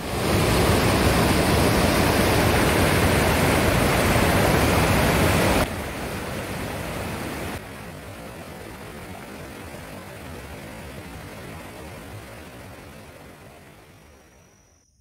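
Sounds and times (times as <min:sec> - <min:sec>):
floodwater rushing: 0:00.0 - 0:13.9.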